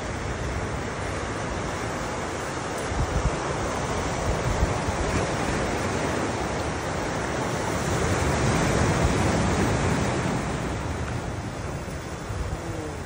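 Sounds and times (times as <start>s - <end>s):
ocean surf washing on shore: 0.0s - 13.0s
wind buffeting microphone: 0.0s - 13.0s.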